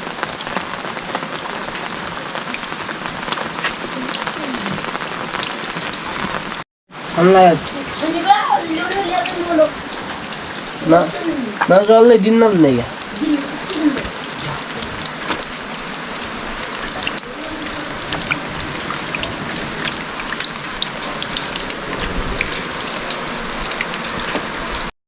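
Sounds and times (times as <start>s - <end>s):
raindrops ticking on a surface: 0.0s - 24.9s
steady rain falling: 0.0s - 24.9s.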